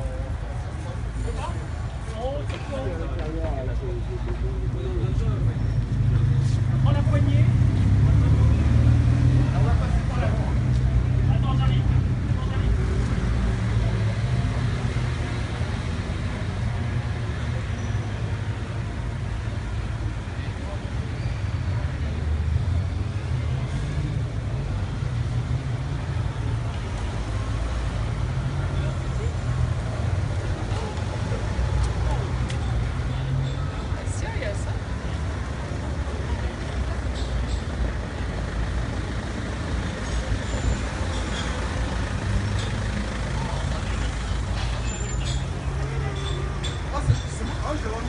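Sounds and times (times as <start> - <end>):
heavy vehicle engine rumbling: 0.0 - 48.0
street noise: 0.0 - 48.0.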